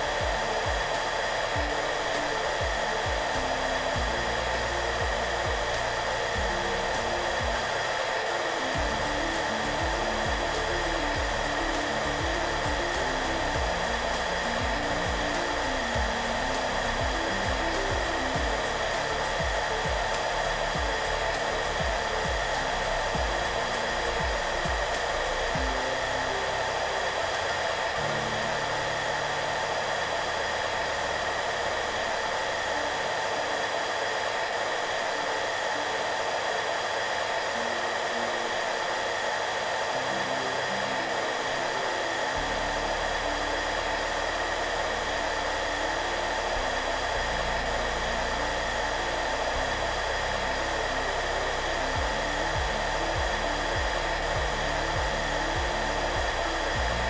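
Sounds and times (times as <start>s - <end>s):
hair dryer running: 0.0s - 57.0s
soft background music: 0.0s - 57.0s.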